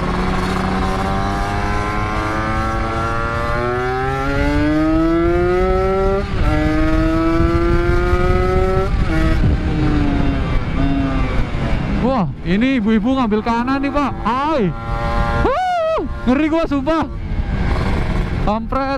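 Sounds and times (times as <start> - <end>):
motorcycle engine accelerating: 0.0 - 18.9
wind rumble: 0.0 - 18.9.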